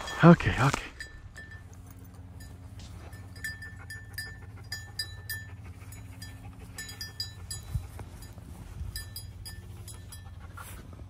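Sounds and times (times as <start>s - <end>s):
small bell tinkling: 0.0s - 10.4s.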